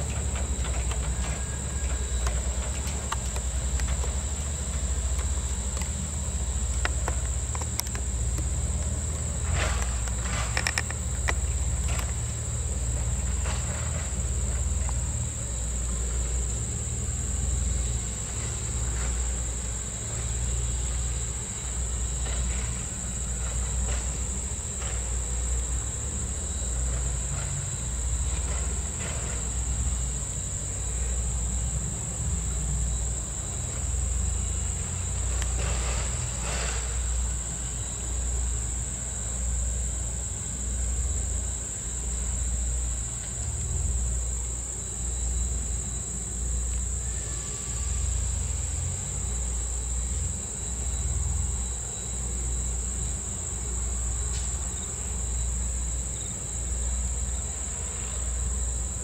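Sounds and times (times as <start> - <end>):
shrill insect chorus: 0.0 - 59.0.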